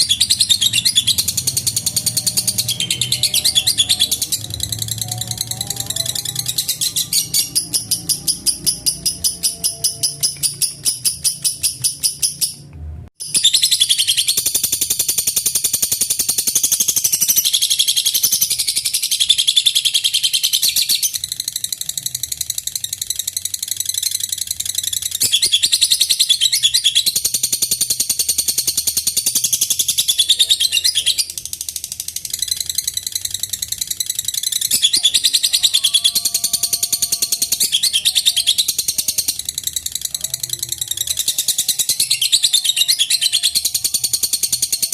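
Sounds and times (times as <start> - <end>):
bird rapid high chattering: 0.0 - 12.6, 13.2 - 44.9.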